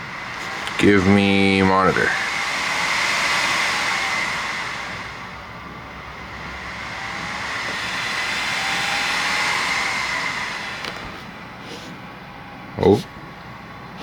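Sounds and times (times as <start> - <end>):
computer cooling fans whining: 0.0 - 14.0.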